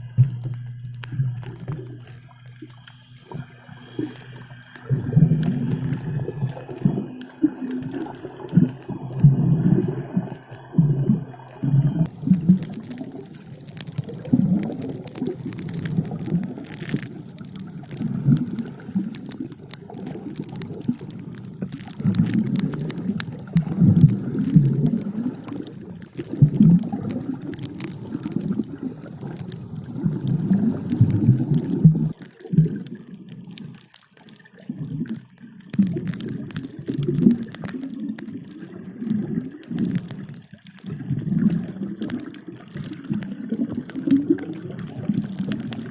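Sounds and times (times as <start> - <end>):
muffled underwater bubbling: 0.0 - 45.9.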